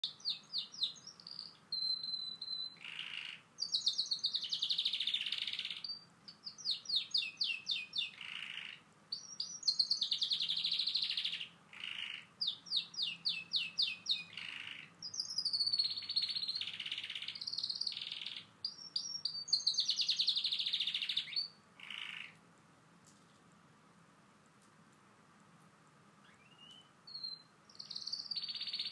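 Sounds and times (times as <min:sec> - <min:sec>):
canary singing: 0:00.0 - 0:22.4, 0:26.2 - 0:28.9.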